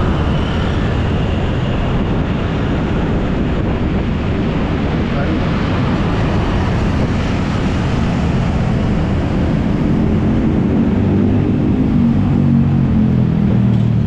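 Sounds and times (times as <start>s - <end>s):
scooter engine hum: 0.0s - 14.0s
wind rush on camera: 0.0s - 14.0s.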